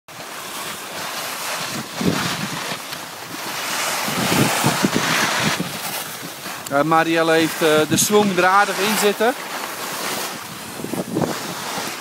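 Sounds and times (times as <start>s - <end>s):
skis hissing and scraping on snow: 0.1s - 12.0s
wind buffeting microphone: 0.9s - 12.0s.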